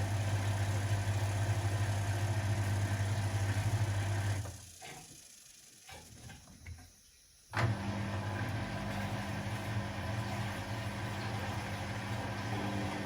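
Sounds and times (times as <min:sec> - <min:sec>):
laundry machine motor humming: 0:00.0 - 0:05.0, 0:07.5 - 0:13.0.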